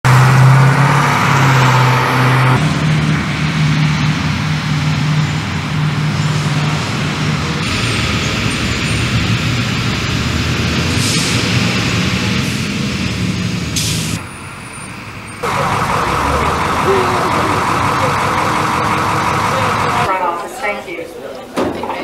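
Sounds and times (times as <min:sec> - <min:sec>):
vehicle engine hum: 0:00.0 - 0:20.1.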